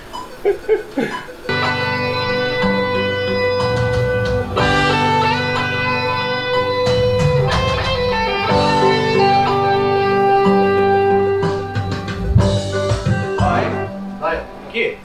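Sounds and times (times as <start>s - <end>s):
guitar playing slow chords: 1.5s - 14.7s.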